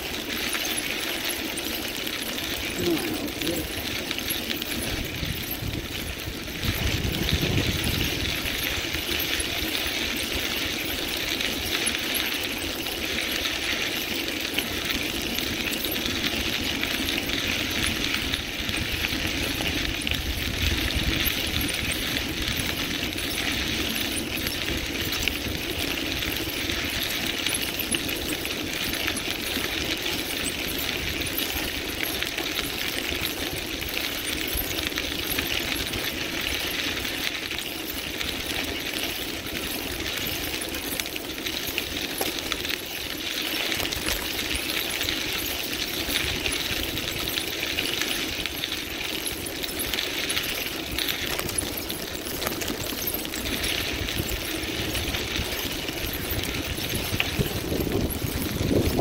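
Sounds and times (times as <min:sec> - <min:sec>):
bicycle tyres crunching on gravel: 0:00.0 - 0:59.0.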